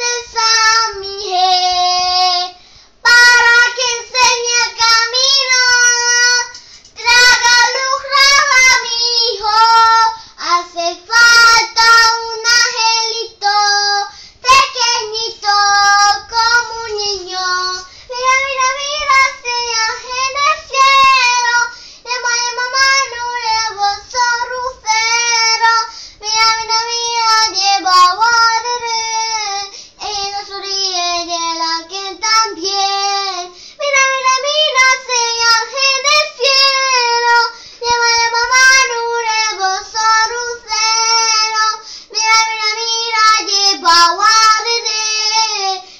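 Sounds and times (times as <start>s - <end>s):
girl singing unaccompanied: 0.0s - 45.9s.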